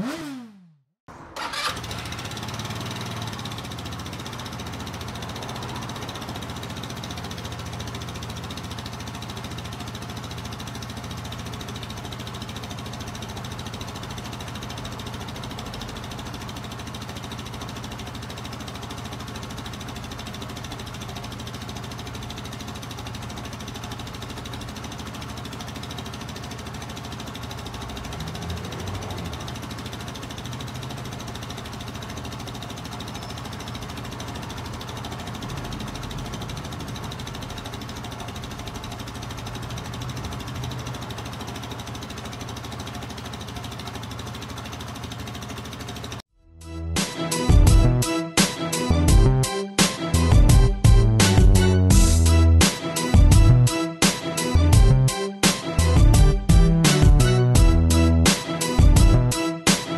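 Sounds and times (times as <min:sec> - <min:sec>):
scooter engine idling: 0:01.1 - 0:46.3, 0:46.9 - 0:59.9.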